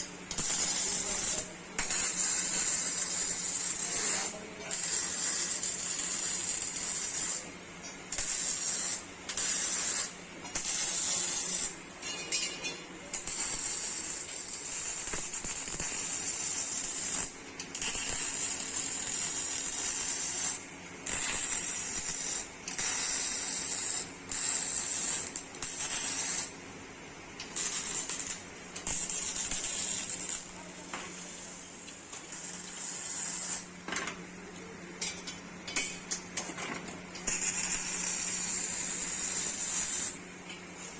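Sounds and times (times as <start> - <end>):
welding arc crackling: 0.0 - 34.6, 37.1 - 40.3.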